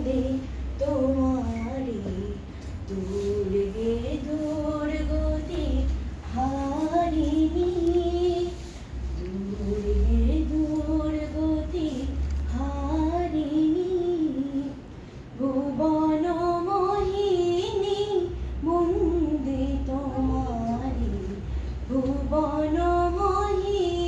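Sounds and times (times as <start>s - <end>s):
woman singing unaccompanied: 0.0s - 24.0s.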